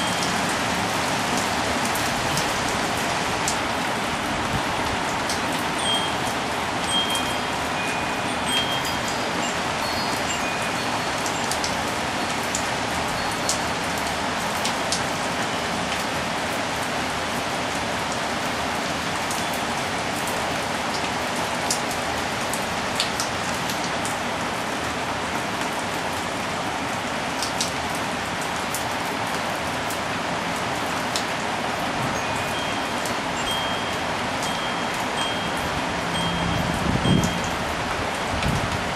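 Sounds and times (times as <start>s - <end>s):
rain falling: 0.0s - 38.9s
raindrops pattering on surfaces: 0.0s - 38.9s.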